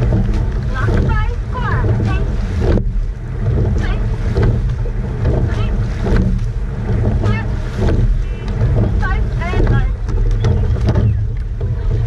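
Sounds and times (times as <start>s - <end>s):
oars knocking in oarlocks: 0.0s - 12.0s
water rushing past hull: 0.0s - 12.0s
wind buffeting microphone: 0.0s - 12.0s.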